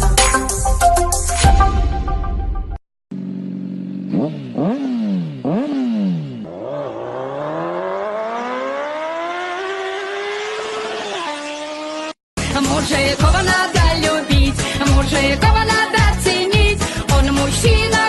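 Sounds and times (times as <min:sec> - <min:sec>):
engine idling and revving: 0:03.1 - 0:18.0.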